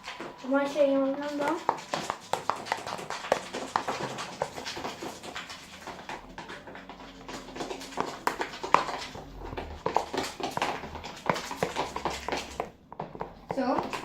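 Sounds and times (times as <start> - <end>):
slime being stirred: 0.0 - 14.0.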